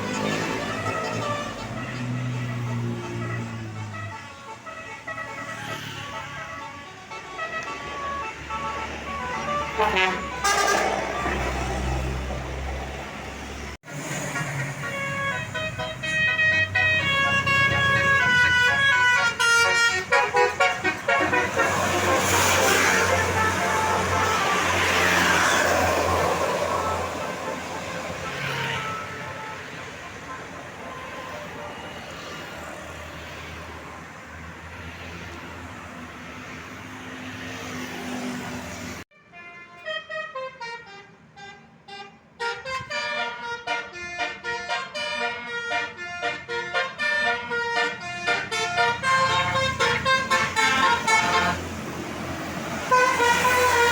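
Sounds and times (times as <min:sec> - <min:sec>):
bus multi-tone horn playing a tune: 0:00.0 - 0:12.2, 0:14.0 - 0:31.7, 0:39.1 - 0:53.9
road noise: 0:00.0 - 0:53.9.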